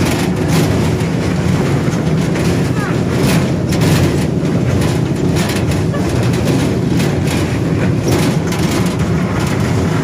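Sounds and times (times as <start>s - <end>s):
ride vehicle rumbling and rattling: 0.0s - 10.0s.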